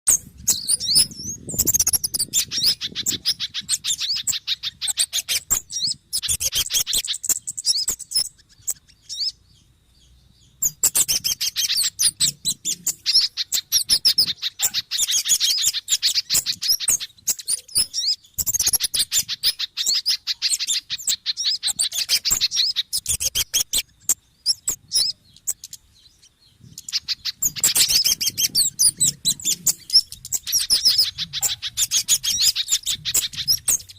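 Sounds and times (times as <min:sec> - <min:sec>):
birds chattering rapidly: 0:00.1 - 0:33.9.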